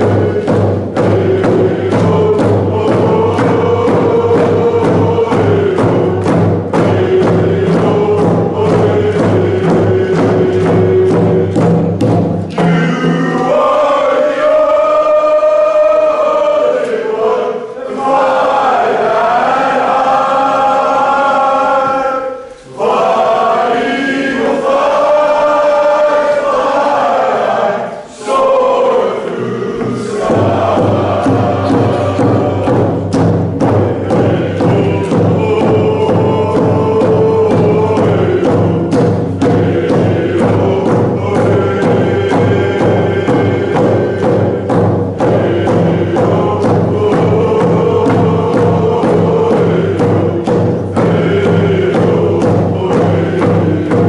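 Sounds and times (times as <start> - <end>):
frame drums beating: 0.0 - 54.0
men singing a chant: 0.0 - 54.0.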